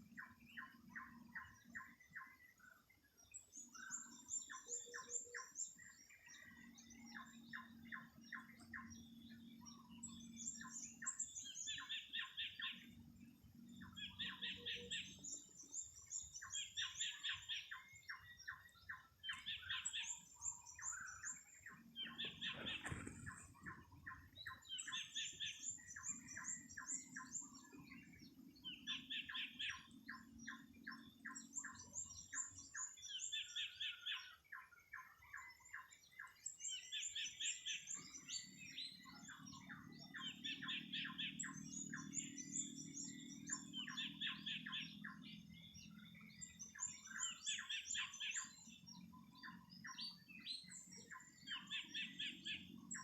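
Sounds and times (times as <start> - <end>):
songbirds chirping in trills: 0.0 - 53.0.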